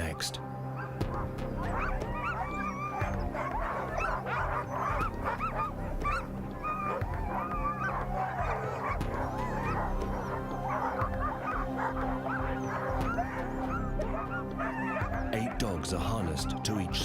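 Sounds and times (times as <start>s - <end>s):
huskies barking and yipping: 0.0s - 17.0s.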